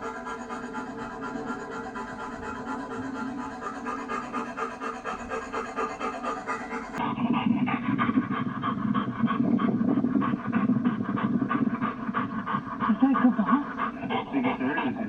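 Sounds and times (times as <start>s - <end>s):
dog panting rapidly: 0.0s - 15.0s.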